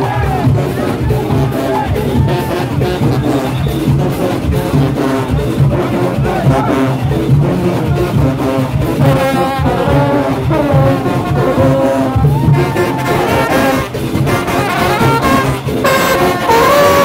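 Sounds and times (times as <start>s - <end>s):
steady low beat: 0.0s - 16.6s
marching band brass playing: 0.0s - 17.0s.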